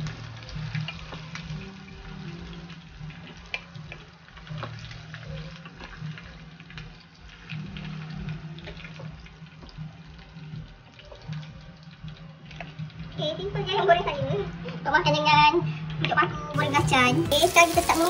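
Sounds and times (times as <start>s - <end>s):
food frying in hot oil: 0.0s - 18.0s.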